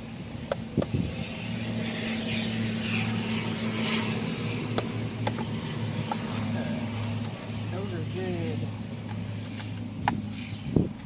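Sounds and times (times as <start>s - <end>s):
low motor-like hum: 0.0s - 11.0s.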